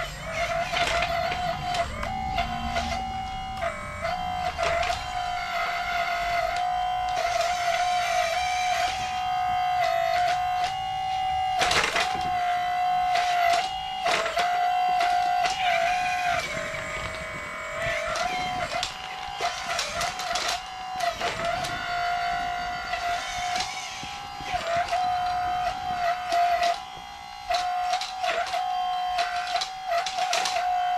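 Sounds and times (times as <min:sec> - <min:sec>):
plastic and metal parts clicking: 0:00.0 - 0:30.9
small electric motor whining: 0:00.0 - 0:30.9.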